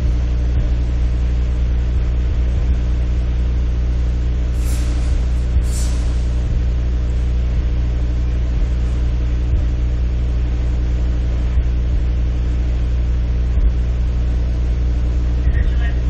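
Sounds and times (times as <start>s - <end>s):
buzzy low hum: 0.0s - 16.0s.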